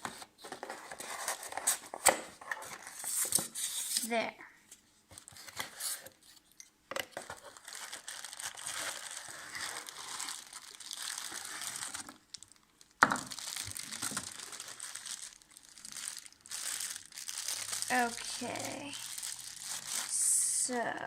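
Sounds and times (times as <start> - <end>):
packaging crinkling and rustling: 0.0 - 4.1, 4.7 - 20.2.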